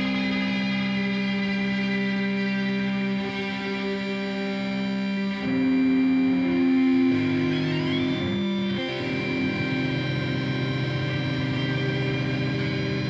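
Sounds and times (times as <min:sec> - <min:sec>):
electric guitar held notes: 0:00.0 - 0:13.0.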